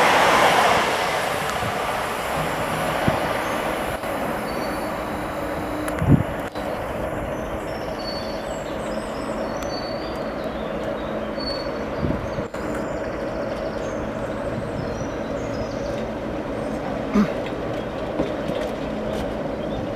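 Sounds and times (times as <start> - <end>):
diesel locomotive droning: 0.0 - 19.9.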